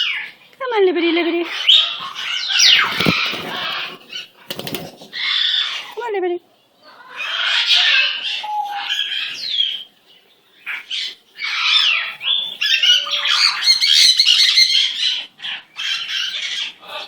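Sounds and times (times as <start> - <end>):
bird squawking and chattering: 1.3 - 6.0, 6.8 - 9.9, 10.6 - 17.0.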